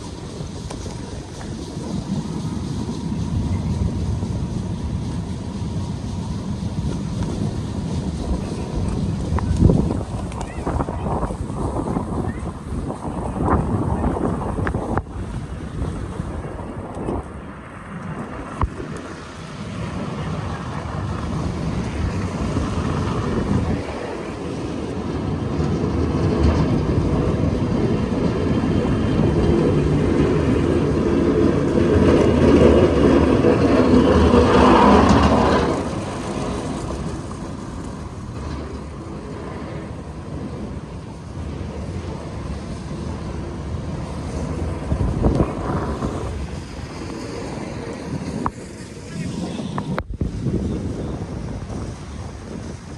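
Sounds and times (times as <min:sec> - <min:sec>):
street traffic noise: 0:00.0 - 0:52.9.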